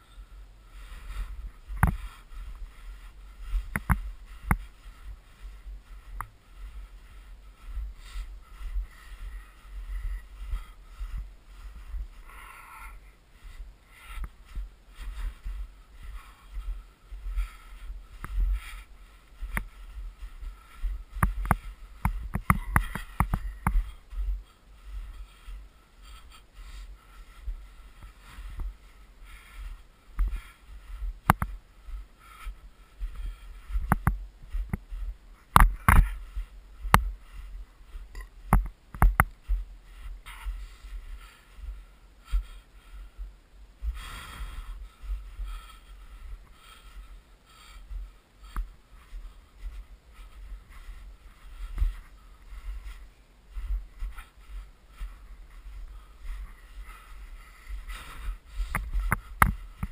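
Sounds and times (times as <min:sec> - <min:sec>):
footsteps in snow: 0:00.0 - 0:59.9
low rumble on microphone: 0:00.0 - 0:59.9.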